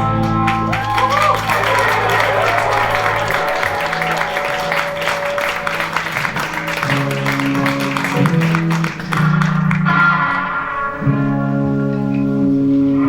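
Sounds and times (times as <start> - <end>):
bass guitar line: 0.0 - 13.0
rock band playing: 0.0 - 13.0.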